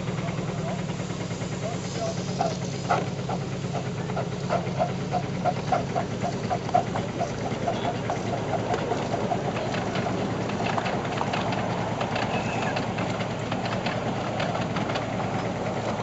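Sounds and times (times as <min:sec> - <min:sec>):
miniature steam locomotive running: 0:00.0 - 0:16.0.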